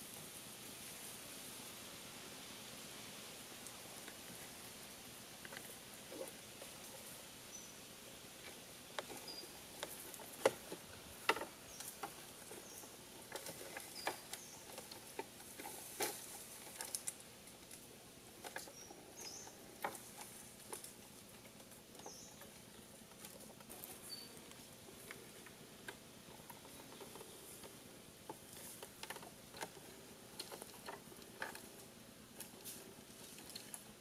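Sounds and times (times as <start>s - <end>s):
bamboo walkway creaking and knocking: 3.6s - 7.4s, 8.2s - 34.0s.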